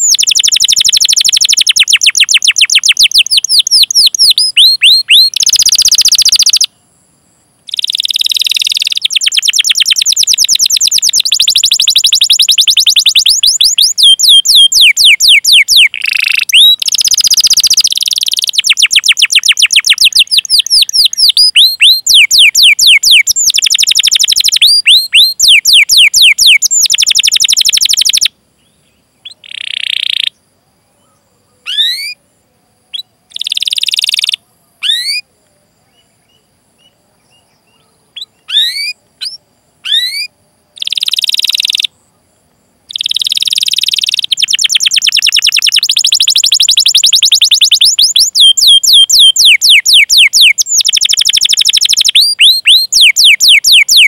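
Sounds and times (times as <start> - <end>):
canary singing trills: 0.0 - 6.8, 7.6 - 42.0, 42.9 - 54.0.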